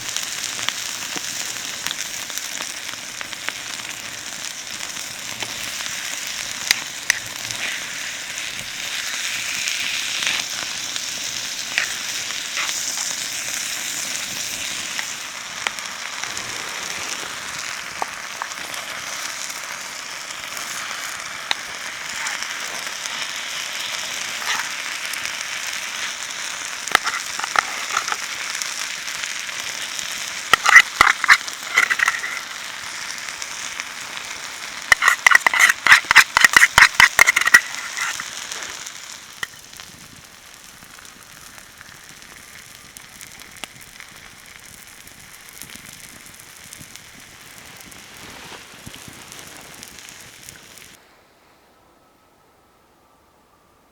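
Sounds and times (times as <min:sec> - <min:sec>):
food sizzling in a pan: 0:00.0 - 0:51.0.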